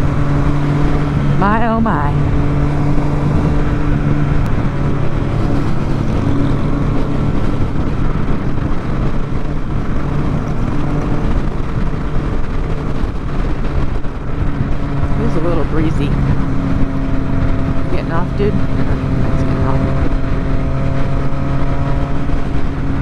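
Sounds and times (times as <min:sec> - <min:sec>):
motorcycle engine running: 0:00.0 - 0:23.0
wind noise: 0:00.0 - 0:23.0.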